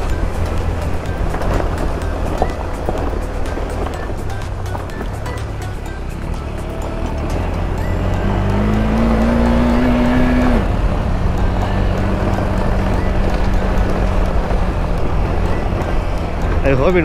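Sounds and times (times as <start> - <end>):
single-cylinder motorcycle engine: 0.0 - 17.0.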